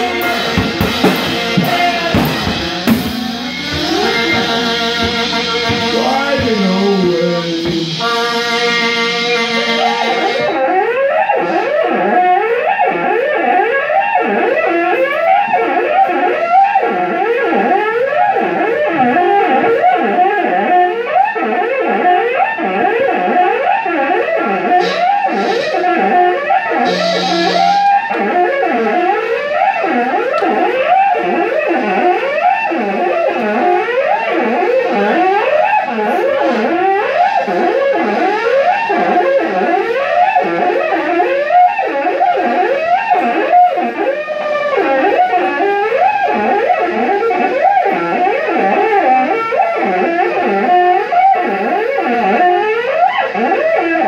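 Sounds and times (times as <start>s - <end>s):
electric guitar with effects: 0.0s - 54.0s.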